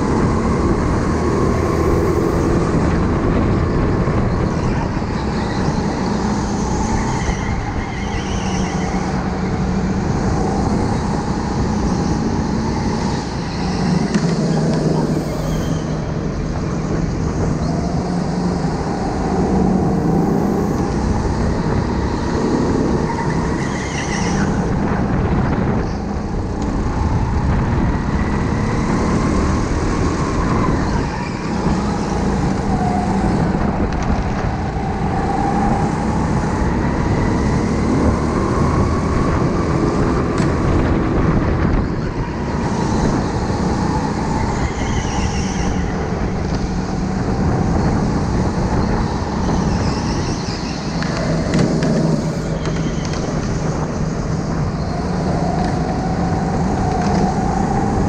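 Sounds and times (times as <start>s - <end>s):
tyre and chassis rumble: 0.0s - 58.0s.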